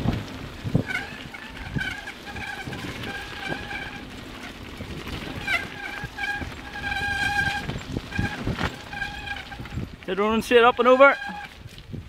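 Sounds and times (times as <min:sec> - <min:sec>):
tyres rumbling on gravel: 0:00.0 - 0:12.0
bicycle brakes squealing: 0:00.7 - 0:11.8.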